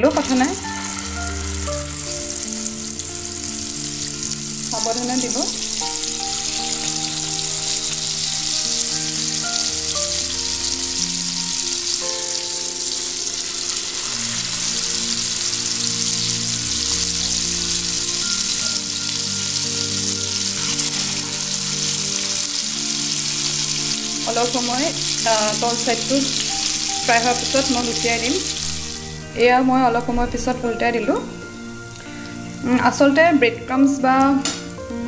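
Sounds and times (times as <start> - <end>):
cutlets sizzling in oil: 0.0 - 29.5
instrumental background music: 0.0 - 35.0.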